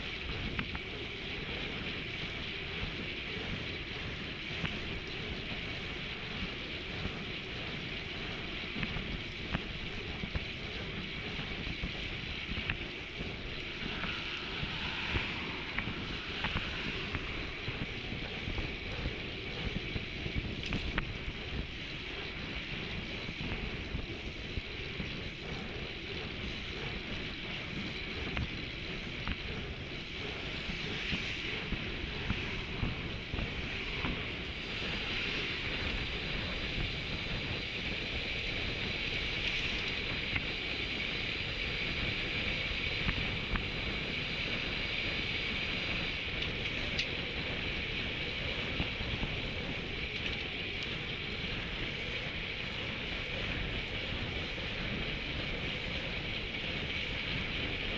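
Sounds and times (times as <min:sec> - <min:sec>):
bicycle rolling noise: 0:00.0 - 0:57.9
wind rushing over microphone: 0:00.0 - 0:57.9.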